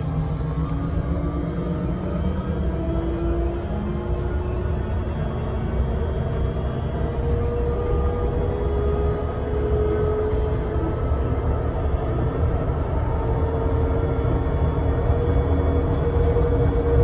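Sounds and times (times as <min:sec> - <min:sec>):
low rumble of tyres: 0:00.0 - 0:17.0.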